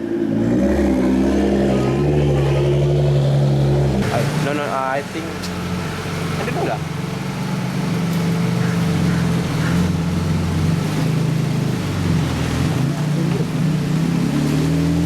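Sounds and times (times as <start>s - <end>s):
car engines rumbling at low revs: 0.0s - 15.0s.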